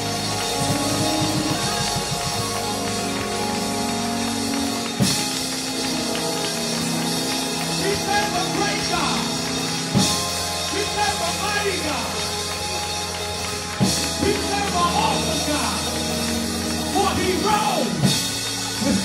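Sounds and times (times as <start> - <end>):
drum kit: 0.0 - 11.4, 12.9 - 19.0
organ and keyboard chords: 0.0 - 19.0.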